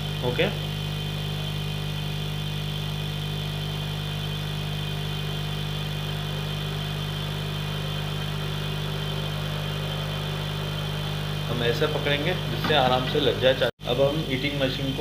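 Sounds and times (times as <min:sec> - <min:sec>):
hot-air machine humming: 0:00.0 - 0:15.0.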